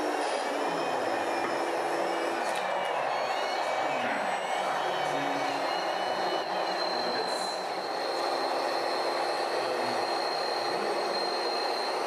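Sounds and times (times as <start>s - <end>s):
hydraulic pump whining: 0.0s - 12.0s.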